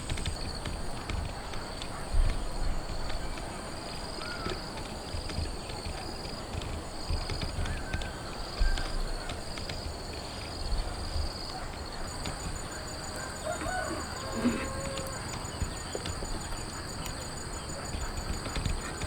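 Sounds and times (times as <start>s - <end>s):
background noise: 0.0s - 19.0s.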